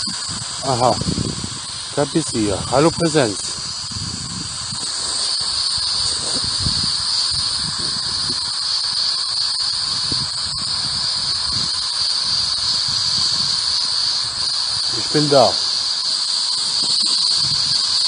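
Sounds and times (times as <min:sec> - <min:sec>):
high whine: 0:00.0 - 0:18.0
radio static hiss: 0:00.0 - 0:18.0.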